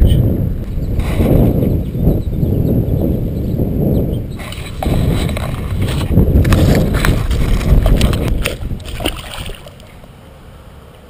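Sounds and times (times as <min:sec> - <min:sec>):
camera jostling rumble: 0:00.1 - 0:10.1.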